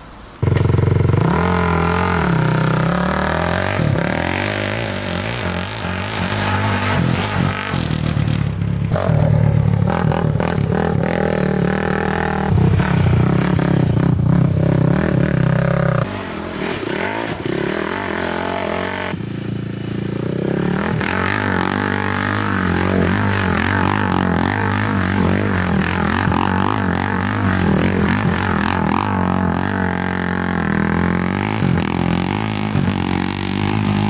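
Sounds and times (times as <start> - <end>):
quad engine idling and revving: 0.4 - 34.0.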